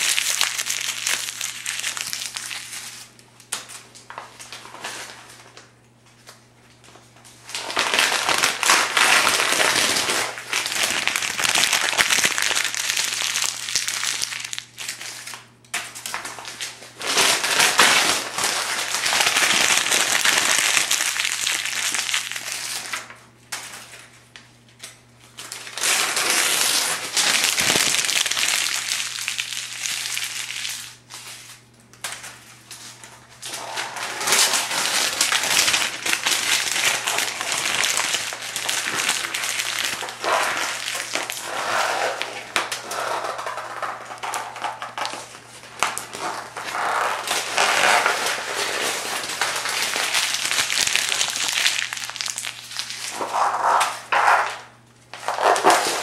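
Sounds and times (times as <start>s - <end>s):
paper crumpling by hand: 0.0s - 5.7s, 7.4s - 23.1s, 24.8s - 54.5s, 55.2s - 56.0s.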